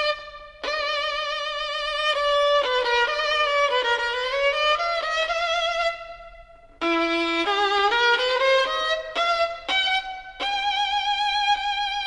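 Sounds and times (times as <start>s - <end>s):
solo violin melody: 0.0s - 12.0s.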